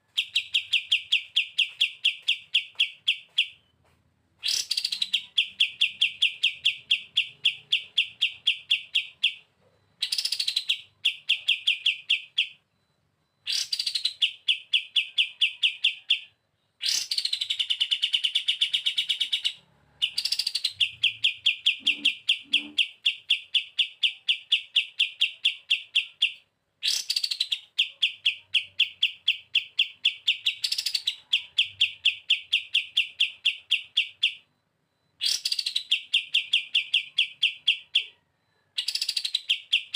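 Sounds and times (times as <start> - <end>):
bird singing fast trill: 4.4 - 9.4, 10.0 - 12.6, 13.4 - 34.4, 35.2 - 38.2, 38.8 - 39.9.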